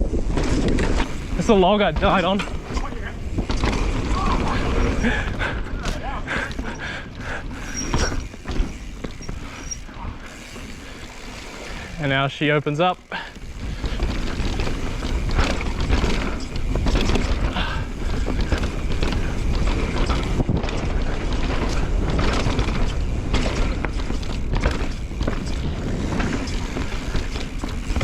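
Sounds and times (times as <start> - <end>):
bike tyre and trail rush: 0.0 - 28.0
bike knocks and rattles: 0.1 - 12.4, 13.1 - 28.0.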